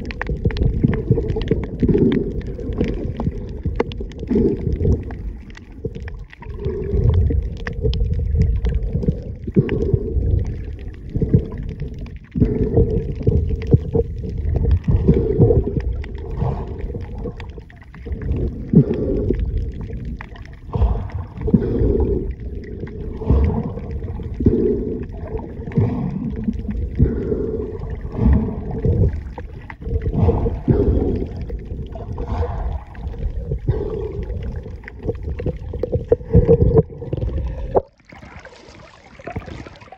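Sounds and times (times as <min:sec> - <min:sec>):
underwater rumbling and gurgling: 0:00.0 - 0:39.9.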